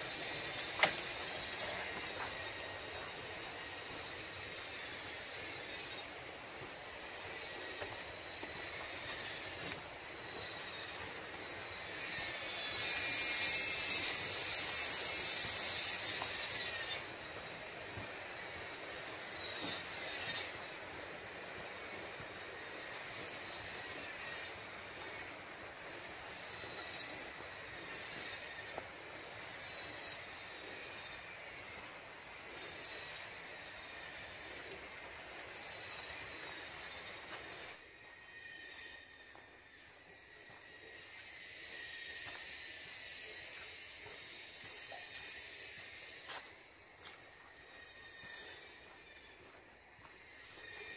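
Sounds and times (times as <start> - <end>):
footsteps on dirt trail: 0.0 - 12.4, 13.9 - 41.3, 42.2 - 50.9
insects buzzing: 0.0 - 50.9.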